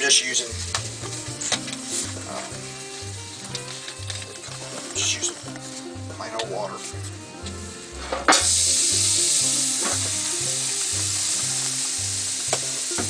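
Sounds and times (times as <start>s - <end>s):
background music beat: 0.4s - 13.0s
water sizzling on hot griddle: 0.7s - 13.0s.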